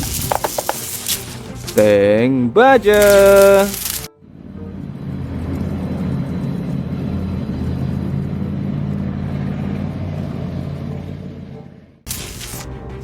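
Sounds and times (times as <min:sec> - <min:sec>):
tank engine rumbling: 0:00.0 - 0:13.0.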